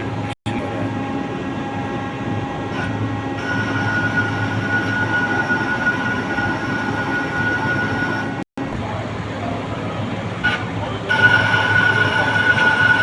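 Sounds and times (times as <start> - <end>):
machine tool humming: 0.0 - 9.0, 10.3 - 13.0
high steady whine: 0.0 - 13.0.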